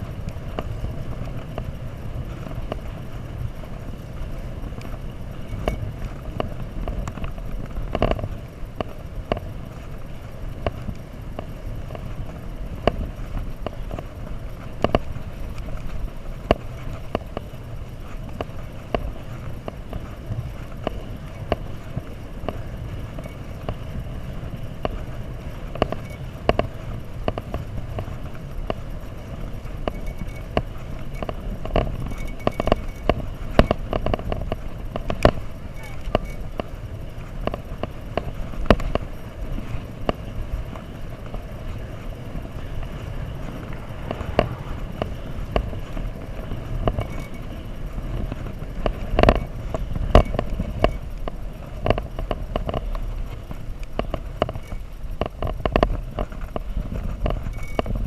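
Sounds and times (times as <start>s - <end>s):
bicycle frame rattling: 0.0s - 58.0s
wind and road noise: 0.0s - 58.0s.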